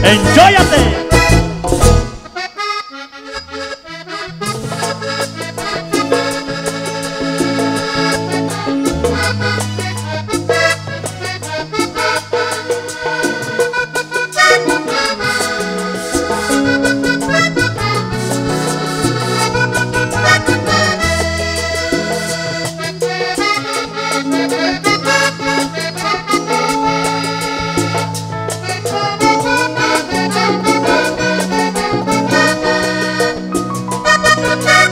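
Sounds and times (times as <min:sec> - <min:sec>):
bass line: 0:00.0 - 0:02.4, 0:03.4 - 0:34.9
button accordion playing: 0:00.0 - 0:34.9
percussion ticking: 0:04.4 - 0:34.9.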